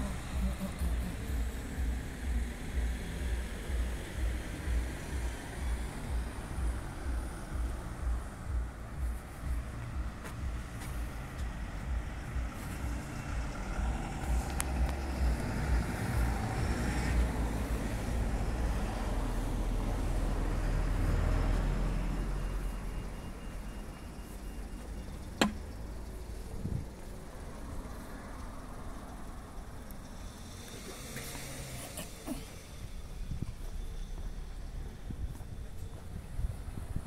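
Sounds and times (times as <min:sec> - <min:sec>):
cars driving past: 0:00.0 - 0:37.0.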